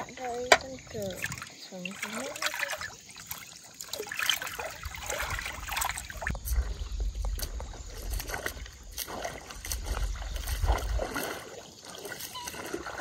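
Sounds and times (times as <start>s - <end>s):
light water splashes: 0.0s - 13.0s
river water trickling and sloshing: 0.0s - 13.0s.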